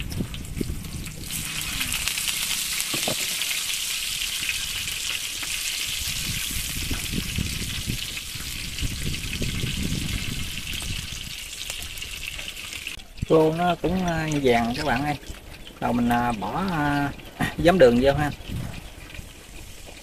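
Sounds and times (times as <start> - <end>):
wind rumbling on microphone: 0.0 - 3.2, 3.8 - 20.0
fish sizzling in hot oil: 0.0 - 20.0.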